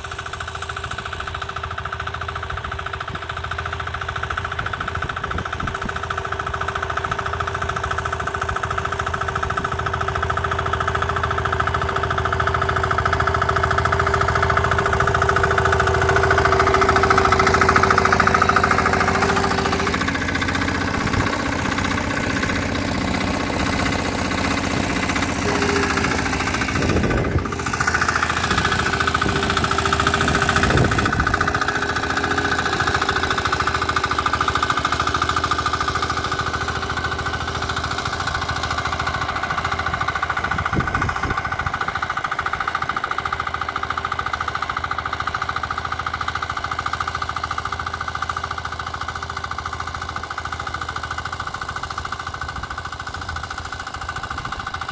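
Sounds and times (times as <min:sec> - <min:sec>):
tiller engine running under load: 0:00.0 - 0:54.9.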